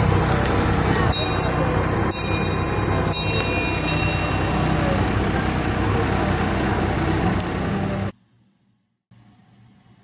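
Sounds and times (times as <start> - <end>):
diesel locomotive engine hum: 0.0 - 8.2.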